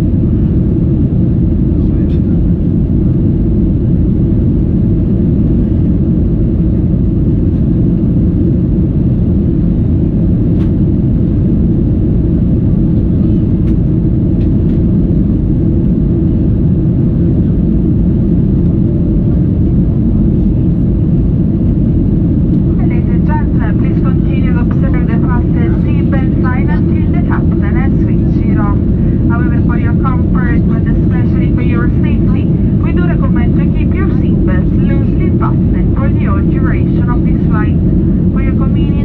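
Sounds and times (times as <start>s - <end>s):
airplane cabin low roar: 0.0s - 39.0s.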